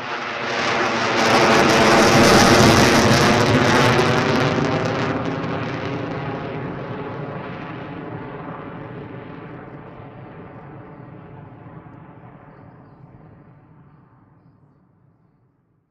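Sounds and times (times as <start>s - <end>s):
jet engine rushing: 0.0s - 13.4s.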